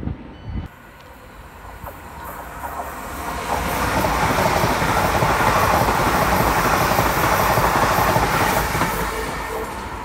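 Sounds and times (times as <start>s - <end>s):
train passing at speed: 0.0s - 10.0s.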